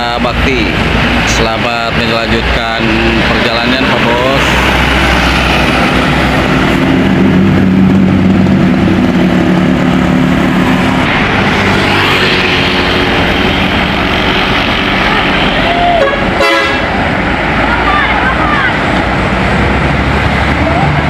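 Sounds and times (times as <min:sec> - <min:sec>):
bus engine running loudly: 0:00.0 - 0:21.0.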